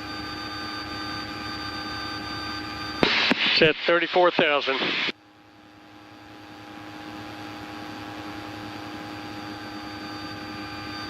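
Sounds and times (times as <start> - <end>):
light aircraft engine drone in cabin: 0.0 - 11.0.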